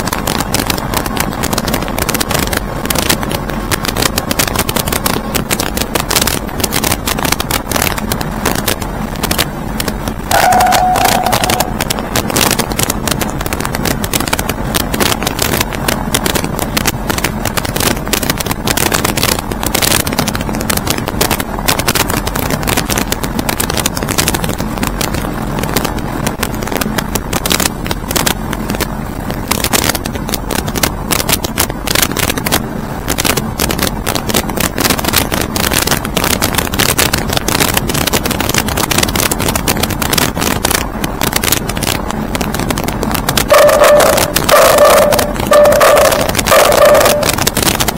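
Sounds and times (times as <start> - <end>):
crackling: 0.0 - 47.9
wind buffeting microphone: 0.0 - 47.9.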